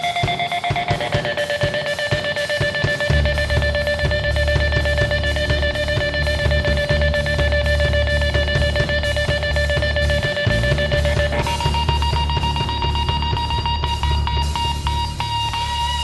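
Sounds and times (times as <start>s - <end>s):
distorted electric guitar: 0.0s - 16.0s
drum kit played hard: 0.0s - 16.0s
heavy bass: 0.0s - 16.0s.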